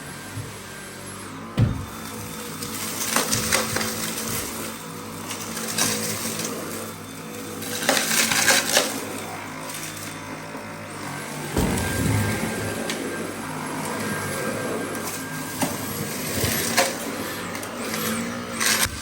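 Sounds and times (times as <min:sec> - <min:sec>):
cordless vacuum cleaner running: 0:00.0 - 0:19.0
debris rattling in vacuum: 0:01.5 - 0:19.0.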